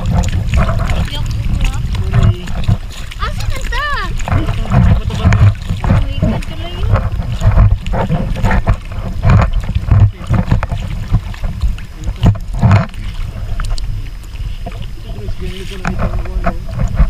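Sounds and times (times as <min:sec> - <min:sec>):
paddles splashing water: 0:00.0 - 0:17.0
wind buffeting microphone: 0:00.0 - 0:17.0.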